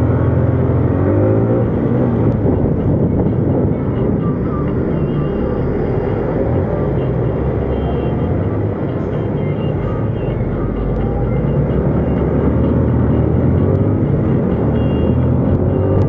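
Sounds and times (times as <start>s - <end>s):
road and wind noise: 0.0s - 16.0s
truck and car engines: 0.0s - 16.0s.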